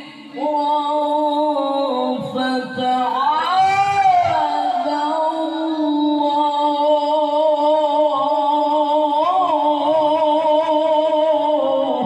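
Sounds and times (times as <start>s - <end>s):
man reciting in long melodic note: 0.0s - 12.0s.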